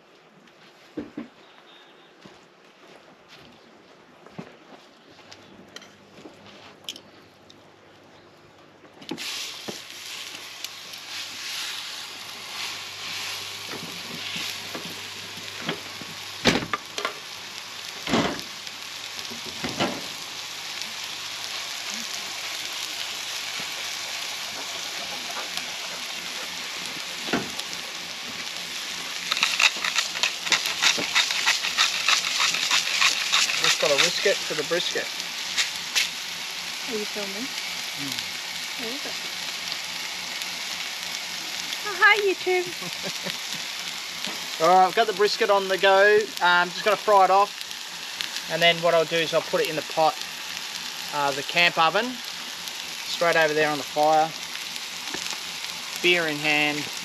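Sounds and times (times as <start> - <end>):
meat sizzling on a griddle: 9.1 - 57.0.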